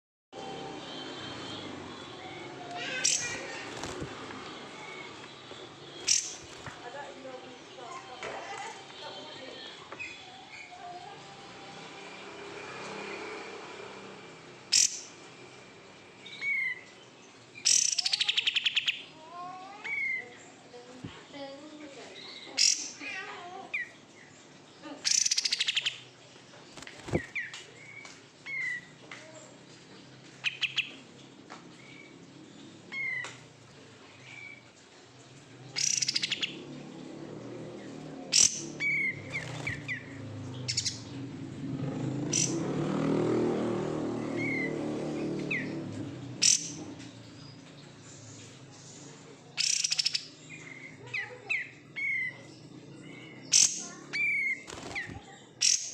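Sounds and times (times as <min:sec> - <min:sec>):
songbird chirping and singing: 0:00.4 - 0:13.0, 0:14.7 - 0:55.9.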